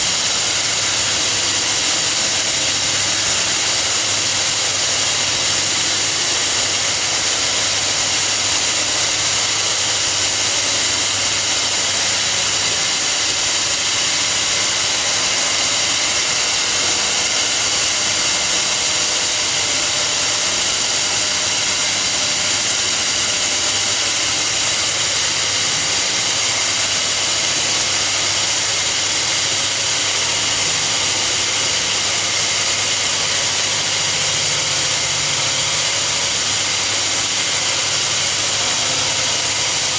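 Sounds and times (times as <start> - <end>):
core drill whining: 0.0 - 39.9.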